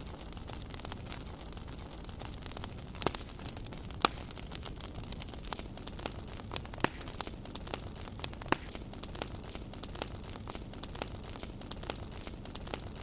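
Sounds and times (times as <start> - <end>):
campfire crackling: 0.0 - 13.0
sharp wood snaps: 2.2 - 12.8.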